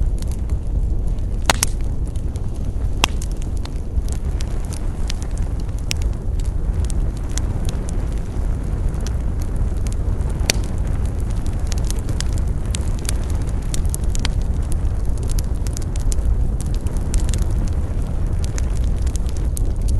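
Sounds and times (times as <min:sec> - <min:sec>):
low fire rumble: 0:00.0 - 0:19.9
wood fire crackling and popping: 0:00.0 - 0:19.9.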